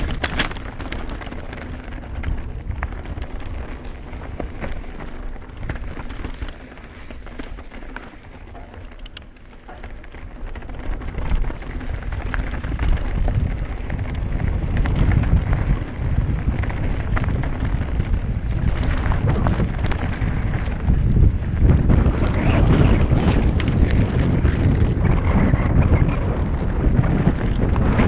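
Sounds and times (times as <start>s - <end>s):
bike rattling clicks: 0.0s - 28.0s
wind buffeting microphone: 0.0s - 28.0s.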